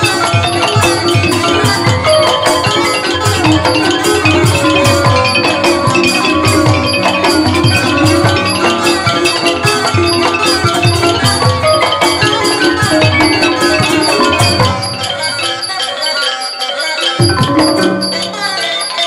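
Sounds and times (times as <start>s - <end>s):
wooden xylophones playing: 0.0s - 19.0s.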